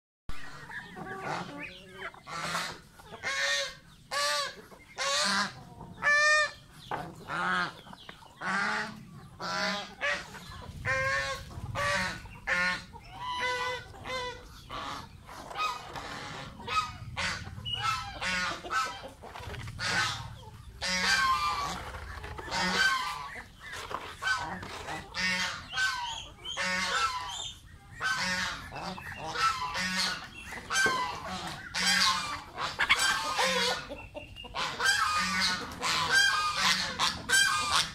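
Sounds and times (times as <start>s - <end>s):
geese honking: 0.3s - 37.9s.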